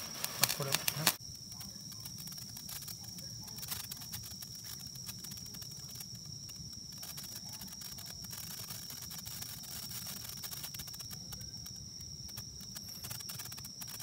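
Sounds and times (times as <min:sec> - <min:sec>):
sparkler crackling: 0:00.0 - 0:14.0.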